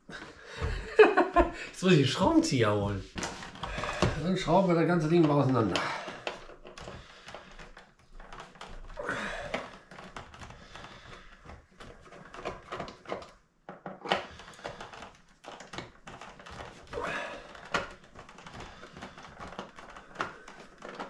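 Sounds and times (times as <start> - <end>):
packaging rustling and scraping: 1.9 - 21.0.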